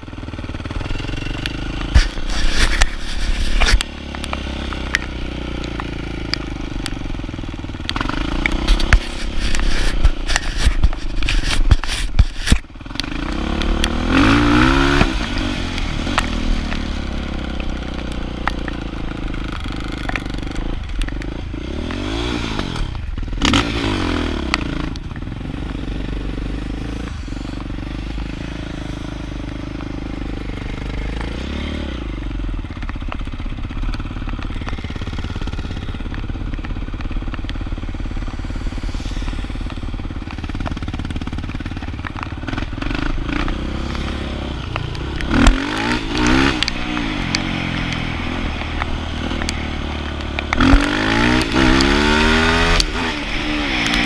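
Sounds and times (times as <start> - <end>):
off-road vehicle engine revving: 0.6 - 32.4, 34.2 - 54.0.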